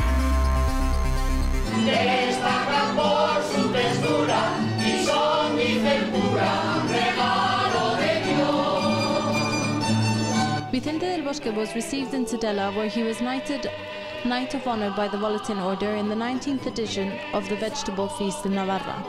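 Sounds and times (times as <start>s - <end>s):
choir singing: 1.7s - 19.0s.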